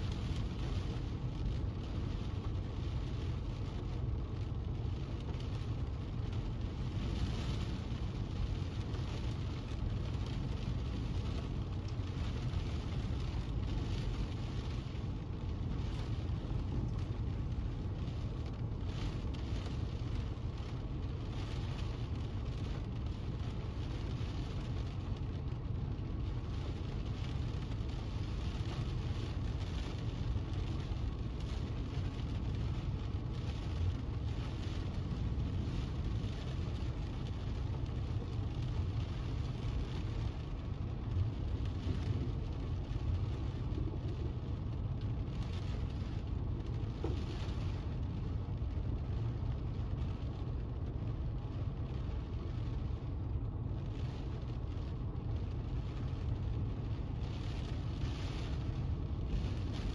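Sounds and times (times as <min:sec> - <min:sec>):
car rumbling: 0:00.0 - 0:59.9
rain pattering: 0:00.0 - 0:59.9.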